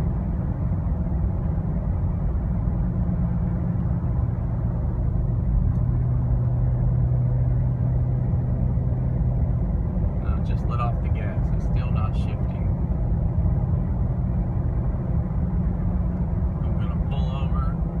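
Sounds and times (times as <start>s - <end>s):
car engine drone: 0.0s - 18.0s
road and tyre noise: 0.0s - 18.0s.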